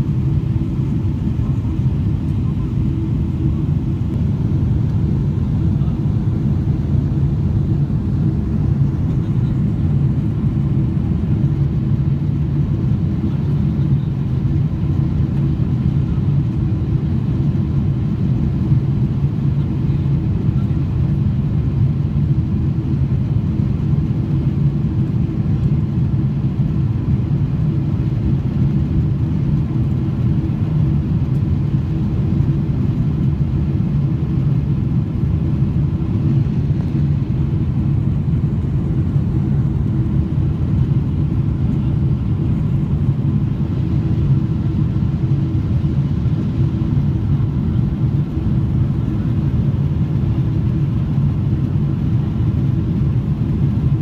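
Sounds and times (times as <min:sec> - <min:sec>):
airliner cabin rumble: 0:00.0 - 0:54.0
faint steady hum: 0:00.0 - 0:54.0.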